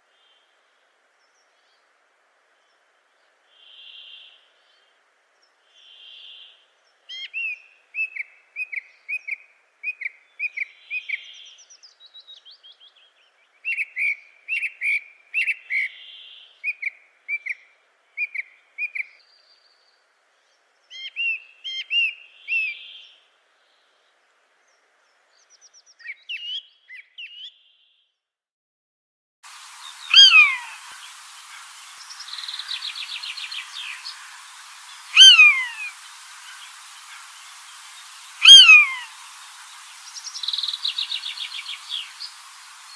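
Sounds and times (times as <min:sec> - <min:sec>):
songbirds chirping: 0:00.0 - 0:28.2, 0:29.5 - 0:42.9
faint background hiss: 0:00.0 - 0:28.3, 0:29.4 - 0:42.9.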